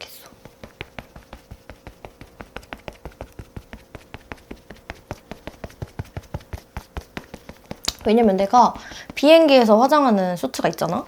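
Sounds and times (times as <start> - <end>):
makeup puff patting face: 0.3 - 10.0.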